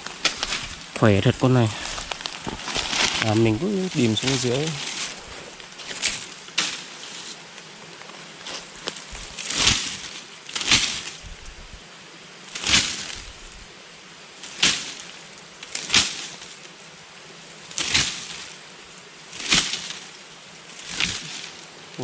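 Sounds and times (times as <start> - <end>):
foliage swishing rustles: 0.0 - 22.0.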